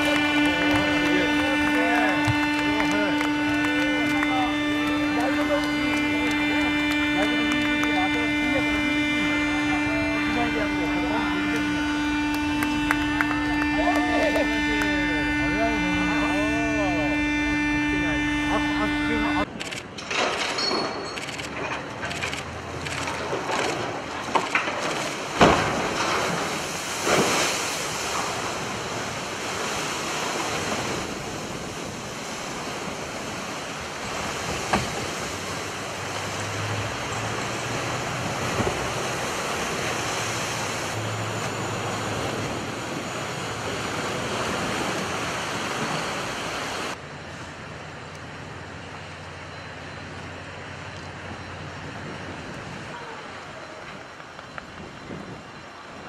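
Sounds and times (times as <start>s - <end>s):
ship crashing into water: 0.0s - 19.0s, 19.9s - 46.7s
water rushing and splashing: 0.0s - 19.4s, 21.6s - 56.0s.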